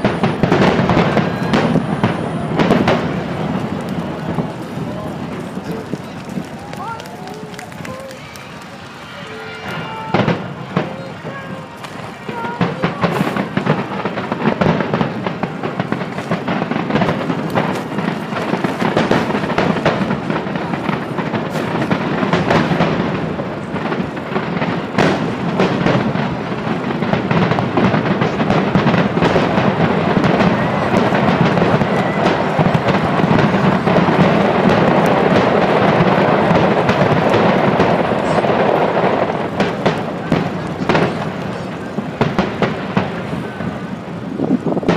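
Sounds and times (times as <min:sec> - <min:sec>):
fireworks booming and crackling: 0:00.0 - 0:44.9.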